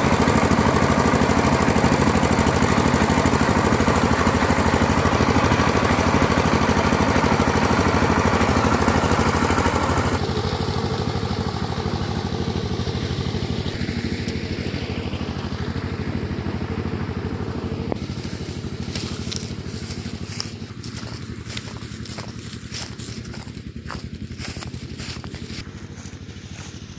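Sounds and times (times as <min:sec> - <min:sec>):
combine harvester engine: 0:00.0 - 0:26.9.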